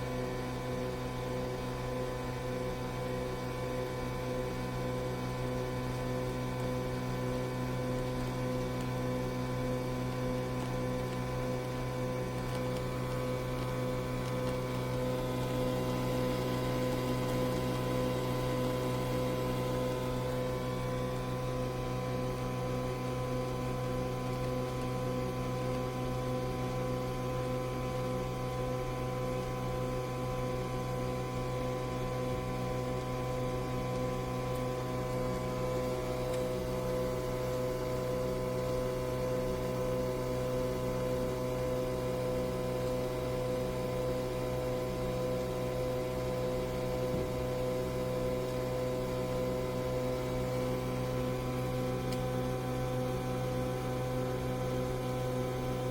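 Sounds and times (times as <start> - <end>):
electrical hum: 0.0 - 55.9.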